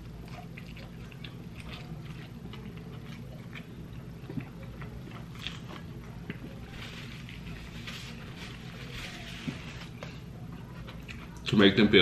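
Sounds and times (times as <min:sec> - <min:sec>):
person chewing food: 0:00.0 - 0:11.5
steady low hum: 0:00.0 - 0:12.0.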